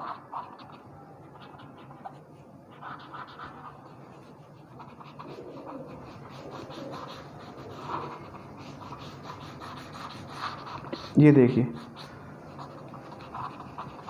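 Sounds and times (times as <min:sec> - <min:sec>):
cotton bud rubbing on paper: 0:00.0 - 0:14.0.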